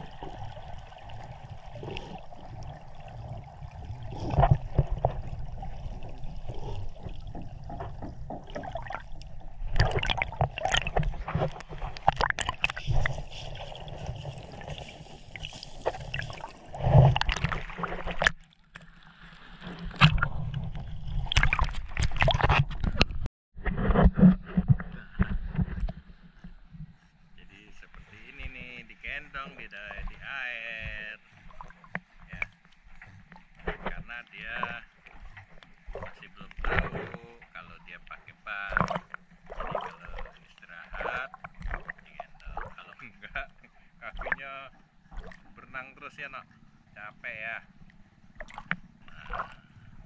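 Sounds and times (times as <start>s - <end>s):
sea water splashing: 0.0s - 23.0s, 27.5s - 50.0s.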